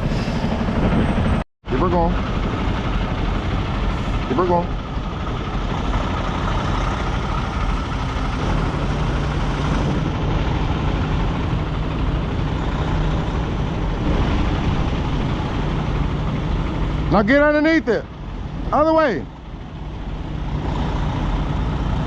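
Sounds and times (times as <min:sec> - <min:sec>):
diesel truck engine running: 0:00.0 - 0:22.0
low hum: 0:00.0 - 0:22.0.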